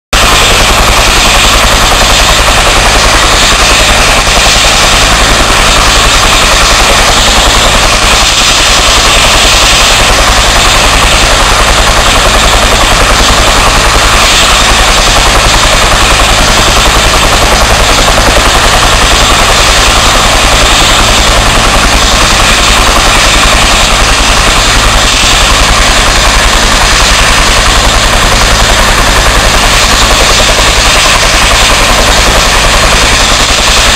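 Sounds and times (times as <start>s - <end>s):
helicopter rotor thumping: 0.2s - 33.9s
high turbine whine: 0.2s - 33.9s.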